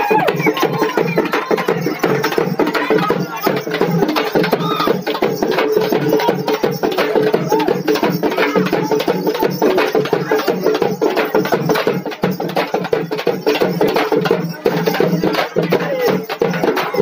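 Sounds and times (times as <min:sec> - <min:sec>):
barrel drums beaten in rhythm: 0:00.0 - 0:17.0.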